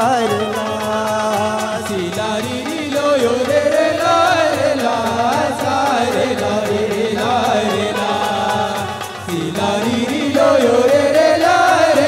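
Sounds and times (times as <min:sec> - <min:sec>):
steady percussion beat: 0:00.0 - 0:12.0.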